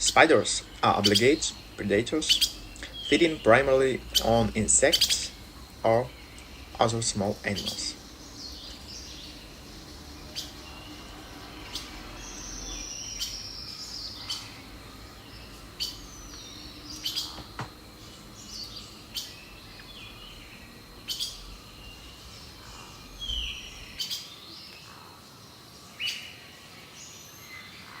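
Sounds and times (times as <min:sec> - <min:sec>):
birds chirping and calling: 0:00.0 - 0:28.0
faint steady hiss: 0:00.0 - 0:28.0.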